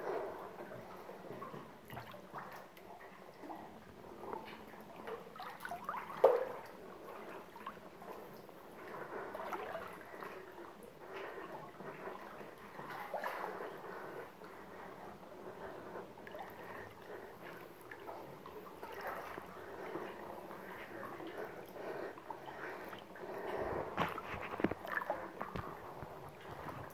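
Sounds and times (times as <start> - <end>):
water sloshing and splashing: 0.1 - 26.9
water drips and gurgles: 0.3 - 26.9.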